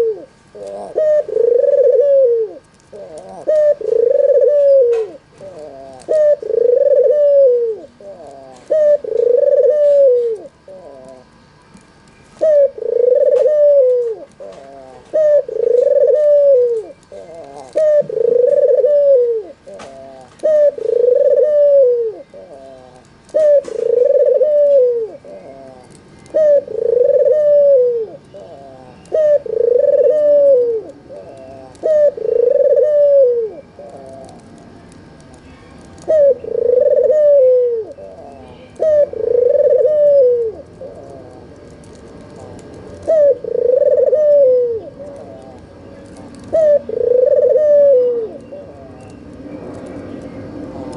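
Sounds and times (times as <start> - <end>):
dove cooing: 0.0 - 11.3, 12.4 - 50.9.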